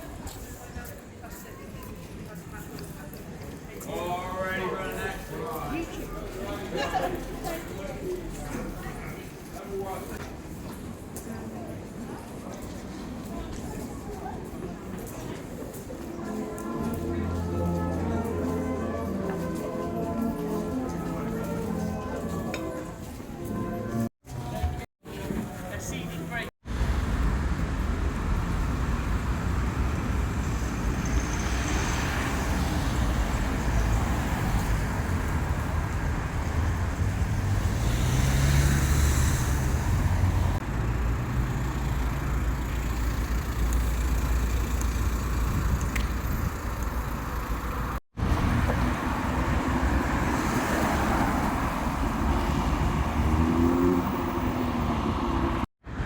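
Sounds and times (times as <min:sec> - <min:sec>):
cars passing on street: 0:02.0 - 0:56.0.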